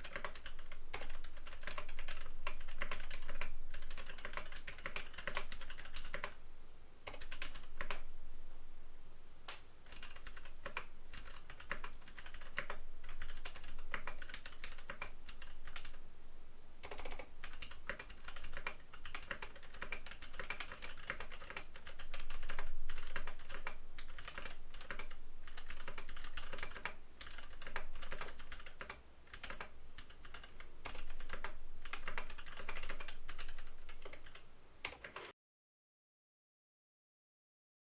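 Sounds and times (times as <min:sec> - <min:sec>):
mechanical keyboard typing: 0:00.0 - 0:06.4, 0:07.1 - 0:08.0, 0:09.9 - 0:16.0, 0:16.8 - 0:35.3.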